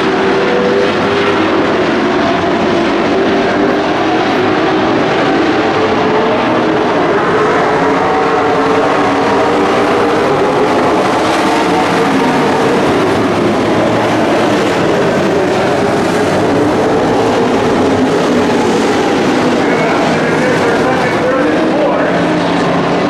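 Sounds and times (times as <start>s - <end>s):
racing truck engines: 0.0s - 23.0s.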